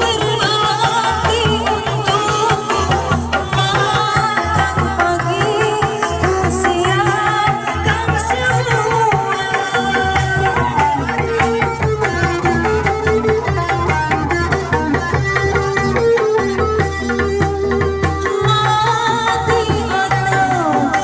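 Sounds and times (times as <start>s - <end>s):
hand drum beats: 0.0s - 21.0s.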